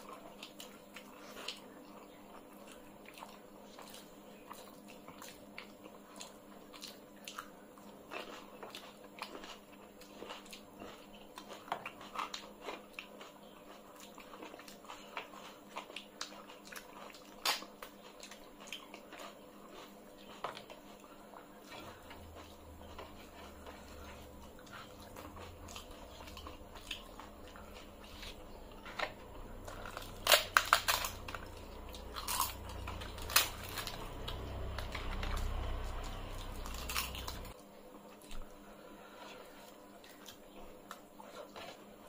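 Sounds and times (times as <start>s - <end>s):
crunching of fried papad: 0.0s - 37.6s
chewing: 0.0s - 42.0s.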